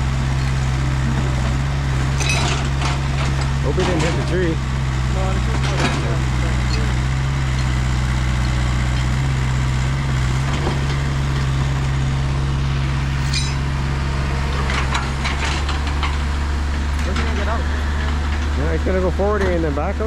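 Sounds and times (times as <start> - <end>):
heavy vehicle engine running: 0.0 - 20.0.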